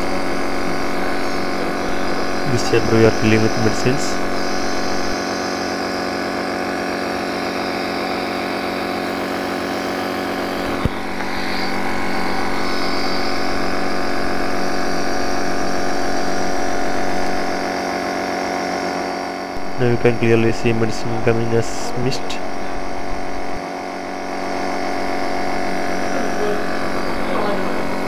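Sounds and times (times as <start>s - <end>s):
nebulizer compressor humming: 0.0s - 28.0s.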